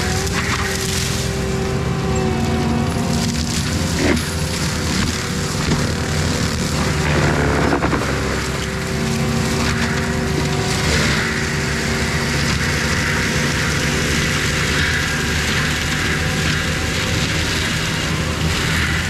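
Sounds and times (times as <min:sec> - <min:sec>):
diesel engine working under load: 0:00.0 - 0:19.0.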